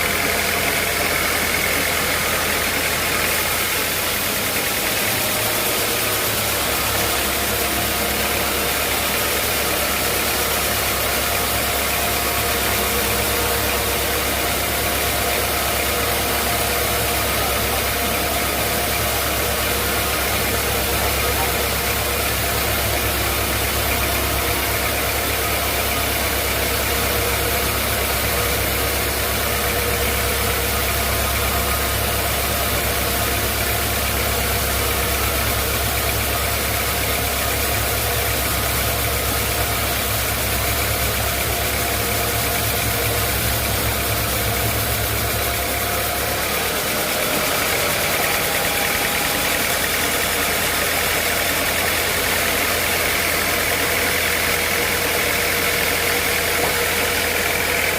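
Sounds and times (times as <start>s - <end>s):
sawmill machinery droning: 0.0s - 57.9s.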